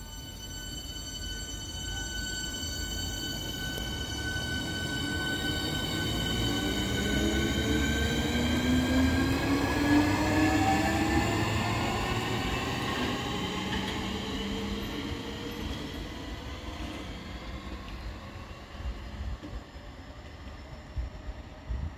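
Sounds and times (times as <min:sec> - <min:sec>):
electric train motor whine: 0:00.1 - 0:19.5.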